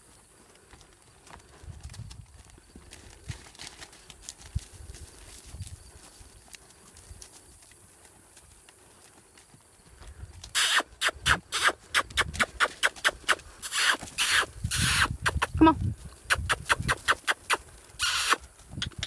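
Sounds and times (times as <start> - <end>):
horse hoofbeats on grass: 0.0 - 19.0.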